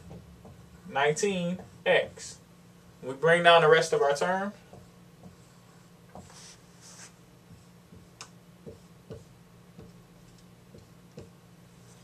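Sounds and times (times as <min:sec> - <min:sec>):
marker writing on whiteboard: 0:00.0 - 0:02.4, 0:04.0 - 0:12.0
low steady hum: 0:00.0 - 0:12.0.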